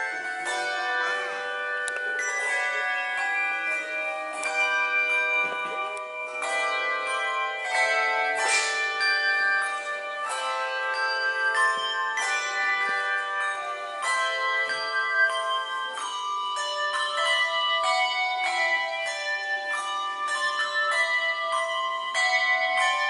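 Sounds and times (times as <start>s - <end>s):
handbell choir playing: 0.0s - 23.0s.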